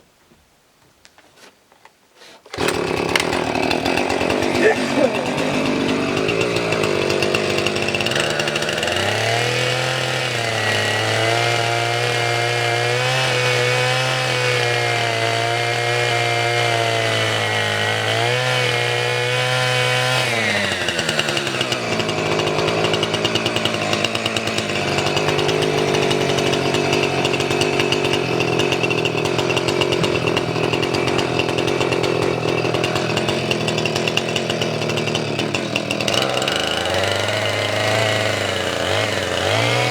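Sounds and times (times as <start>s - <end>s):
chainsaw running: 2.5s - 39.9s.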